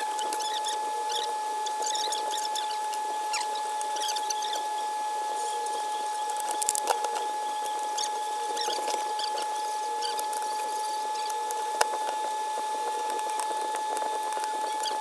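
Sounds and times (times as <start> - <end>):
small clicks and ticks: 0.0 - 4.6, 6.2 - 15.0
high-pitched whine: 0.0 - 15.0.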